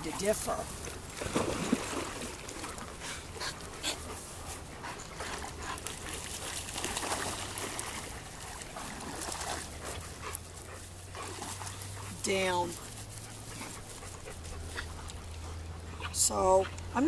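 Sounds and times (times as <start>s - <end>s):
dogs splashing in water: 0.0s - 17.0s.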